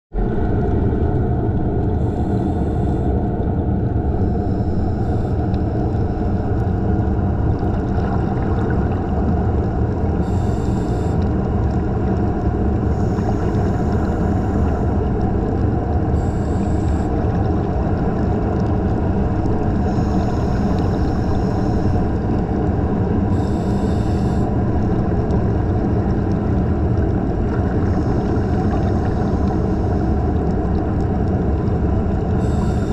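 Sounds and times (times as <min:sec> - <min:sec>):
underwater rumble: 0:00.1 - 0:32.9.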